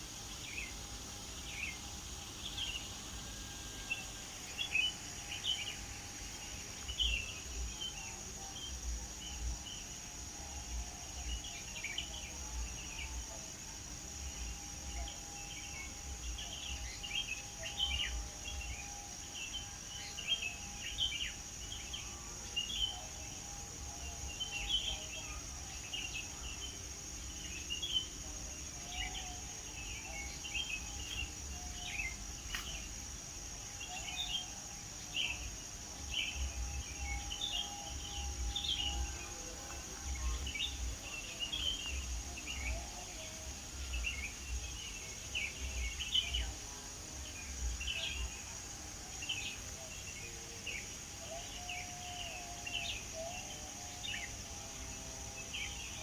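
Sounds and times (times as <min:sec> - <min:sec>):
birds chirping and twittering: 0:00.0 - 0:13.4, 0:14.2 - 0:56.0
high insect drone: 0:00.0 - 0:56.0.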